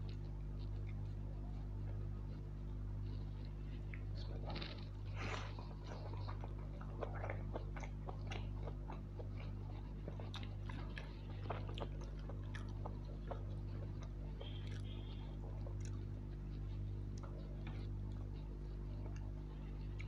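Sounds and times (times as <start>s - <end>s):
man chewing and biting: 0.0s - 20.0s
steady low hum: 0.0s - 20.0s.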